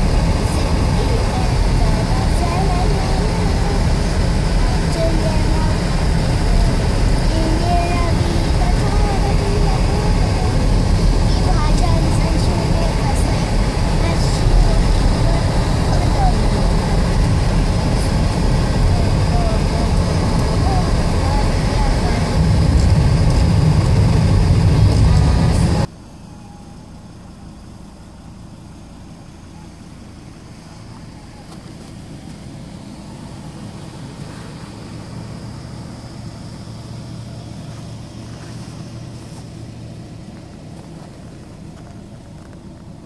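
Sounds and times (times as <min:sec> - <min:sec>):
car road and tyre noise: 0:00.0 - 0:43.0
low engine and road hum: 0:00.0 - 0:43.0.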